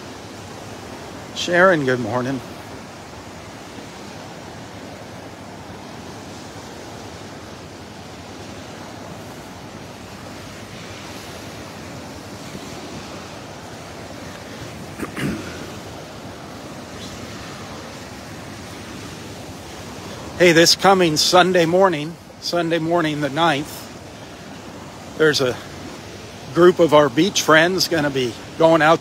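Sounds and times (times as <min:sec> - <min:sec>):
surf breaking on a beach: 0:00.0 - 0:29.0.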